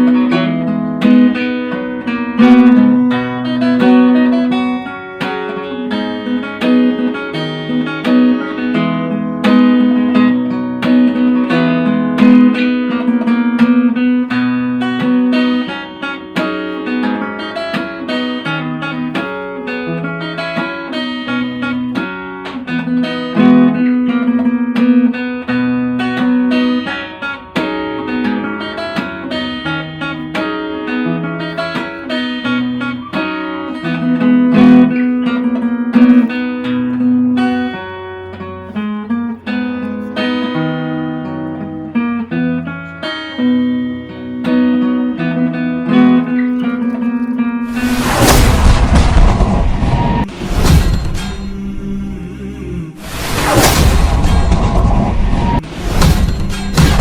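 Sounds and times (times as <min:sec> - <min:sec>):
plucked instrumental music: 0:00.0 - 0:47.7.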